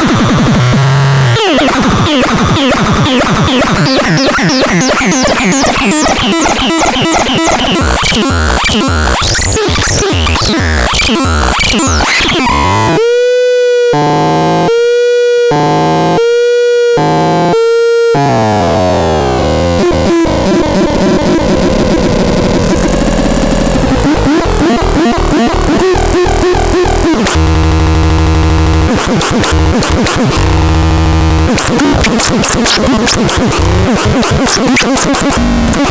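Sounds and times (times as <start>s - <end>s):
synthesizer stepping and sweeping tones: 1.4s - 16.2s, 17.0s - 35.9s.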